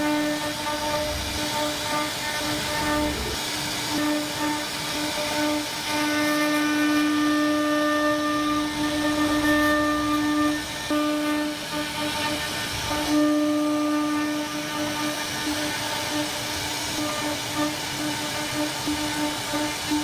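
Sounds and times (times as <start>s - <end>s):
hiss of wood cutting: 0.0s - 20.0s
router spindle whining: 0.0s - 20.0s.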